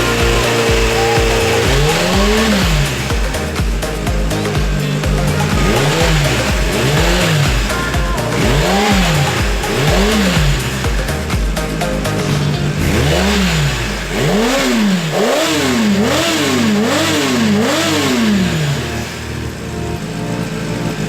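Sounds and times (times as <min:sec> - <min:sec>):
background music: 0:00.0 - 0:21.0
motorcycle engine revving: 0:00.0 - 0:21.0.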